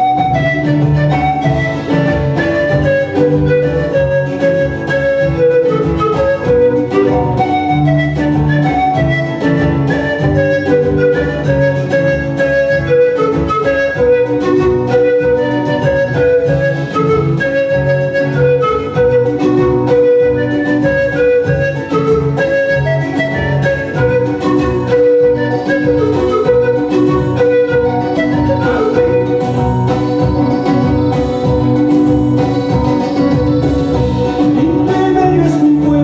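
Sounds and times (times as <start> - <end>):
panpipes melody: 0.0 - 36.0
rhythmic acoustic guitar: 0.0 - 36.0.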